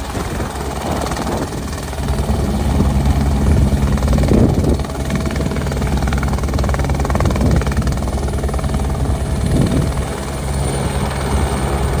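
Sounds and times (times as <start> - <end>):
helicopter engine drone: 0.0 - 12.0
helicopter rotor blades chopping: 0.0 - 12.0.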